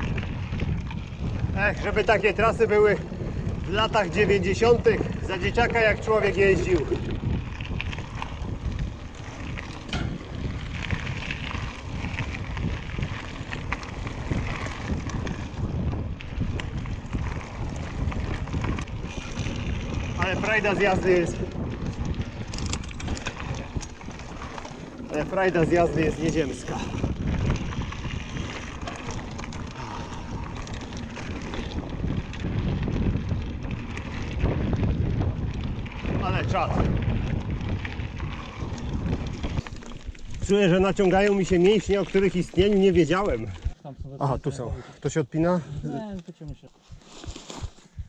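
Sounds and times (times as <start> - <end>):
bike clicks and rattles: 0.0 - 44.0
bike tyre rumble on trail: 0.0 - 48.0
wind buffeting microphone: 0.0 - 48.0.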